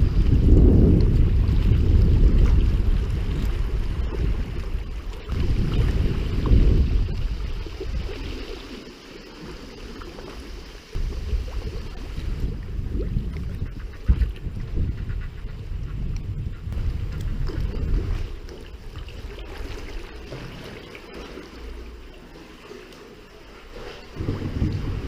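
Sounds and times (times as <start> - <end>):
wind rumbling on microphone: 0.0 - 21.3, 23.6 - 25.0
water sounds: 0.0 - 25.0.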